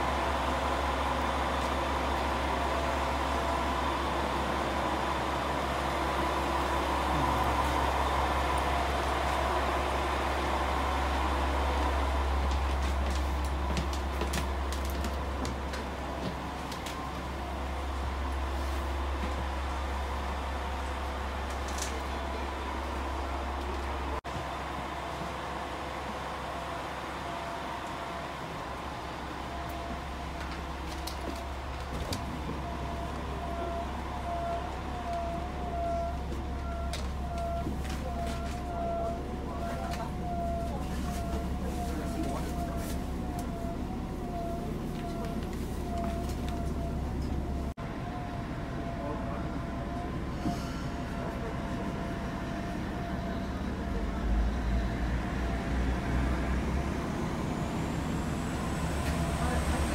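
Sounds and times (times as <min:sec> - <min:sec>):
diesel engine idling hum: 0:00.0 - 0:59.9.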